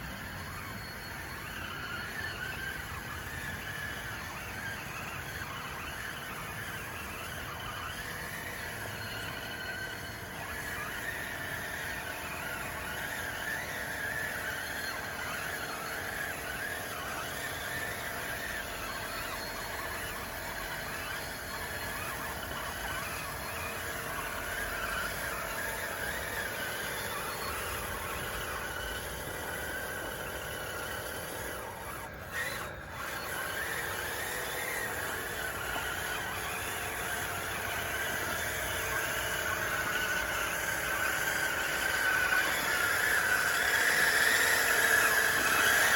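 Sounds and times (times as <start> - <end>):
toy bulldozer motor whine: 0.0 - 45.9.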